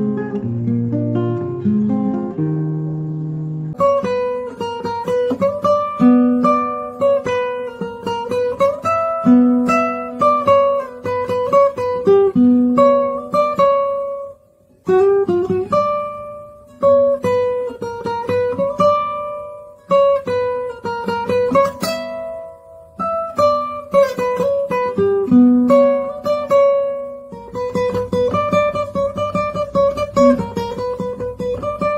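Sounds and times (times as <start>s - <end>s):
plucked acoustic guitar melody: 0.0s - 31.9s.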